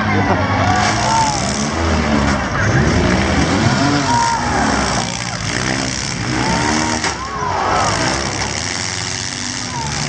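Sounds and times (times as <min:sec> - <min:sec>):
car engines revving: 0:00.0 - 0:10.0
voices: 0:00.0 - 0:10.0.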